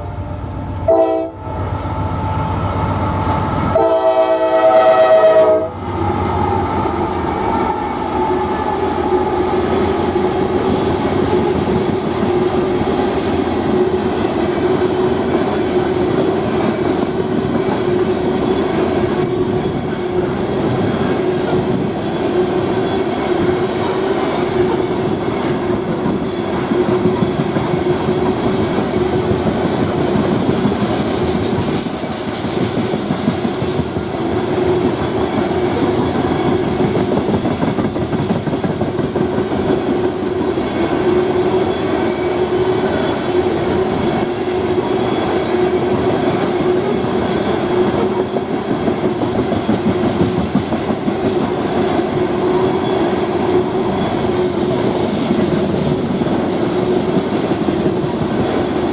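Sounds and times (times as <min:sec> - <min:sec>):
rolling train hum: 0:00.0 - 0:58.9
train wheels clacking on rail joints: 0:08.6 - 0:58.9.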